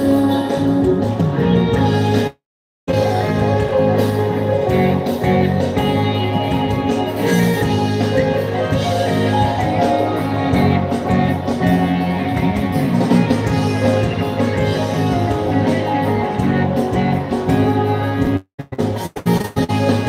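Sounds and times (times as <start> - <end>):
electric guitar: 0.0 - 20.0
live band music: 0.0 - 20.0.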